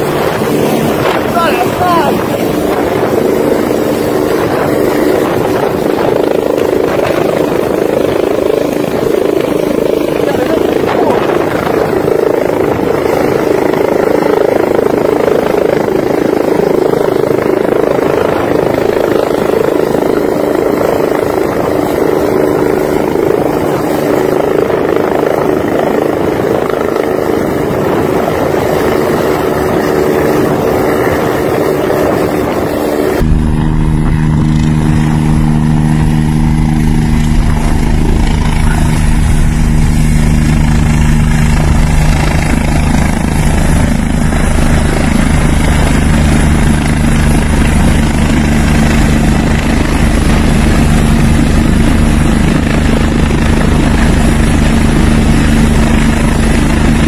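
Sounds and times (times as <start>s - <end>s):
helicopter rotor noise: 0.0s - 57.0s.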